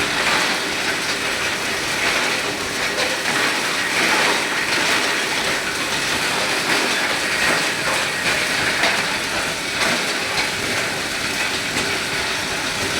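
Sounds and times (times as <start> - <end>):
plastic clattering in grinder: 0.0 - 12.9
plastic grinder running: 0.0 - 12.9.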